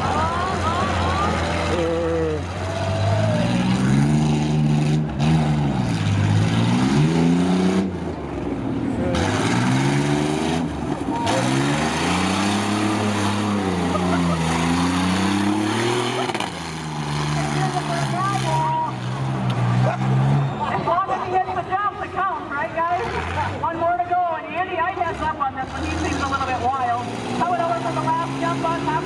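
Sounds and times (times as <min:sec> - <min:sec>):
truck engine revving: 0:00.0 - 0:21.4, 0:22.6 - 0:23.7, 0:25.0 - 0:29.0.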